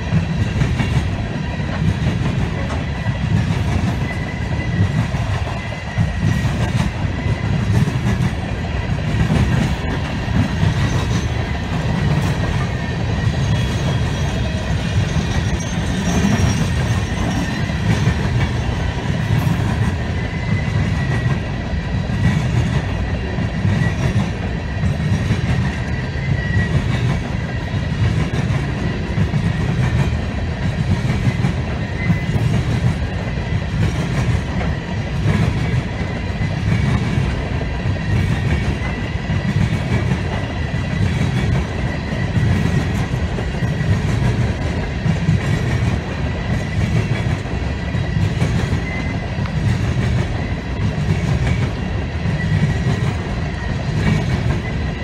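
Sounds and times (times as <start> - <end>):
train cars rumbling: 0.0 - 55.0.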